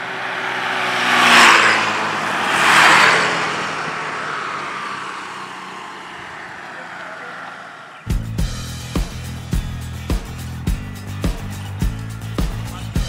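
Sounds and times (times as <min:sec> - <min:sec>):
motor scooters passing: 0:00.0 - 0:13.0.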